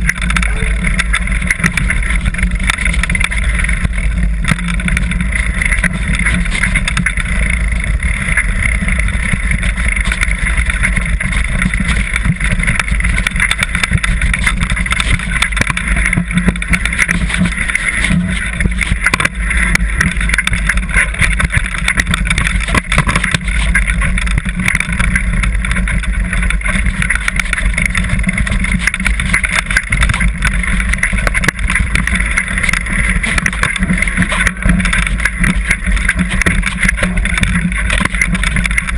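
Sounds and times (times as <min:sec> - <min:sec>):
bike rattling and knocking: 0:00.0 - 0:38.9
wind buffeting microphone: 0:00.0 - 0:38.9.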